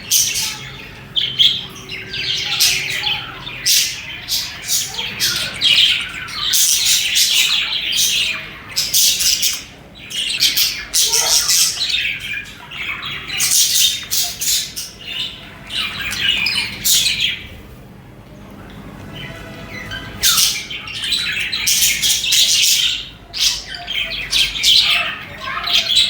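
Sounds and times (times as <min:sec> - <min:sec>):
budgerigars chirping and squawking: 0:00.0 - 0:17.7, 0:18.9 - 0:26.0.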